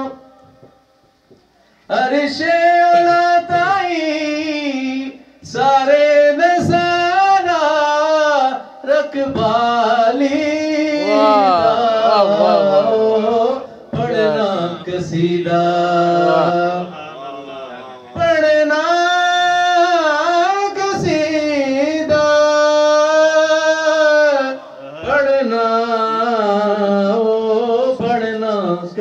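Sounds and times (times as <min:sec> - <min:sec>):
man singing into a microphone: 0:01.9 - 0:17.0, 0:18.1 - 0:29.0.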